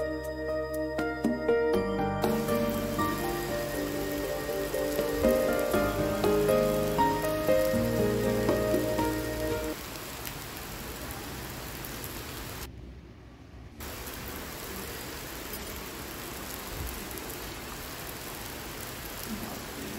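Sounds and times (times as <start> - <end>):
steady rain hiss: 0.0 - 12.8, 13.8 - 19.9.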